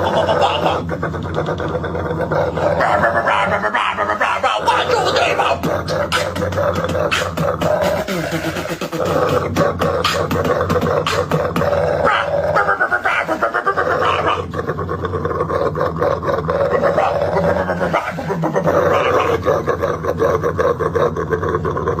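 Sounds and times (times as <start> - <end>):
dog growling: 0.0 - 22.0.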